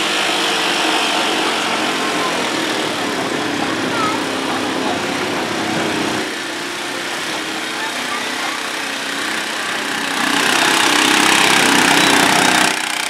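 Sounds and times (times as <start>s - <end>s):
atv engine running under load: 0.0s - 13.0s.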